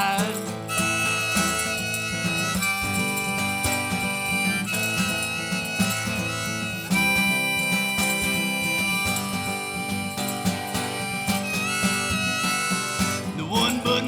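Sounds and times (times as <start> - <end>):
harmonica long held notes: 0.0 - 14.0
strummed acoustic guitar: 0.0 - 14.0.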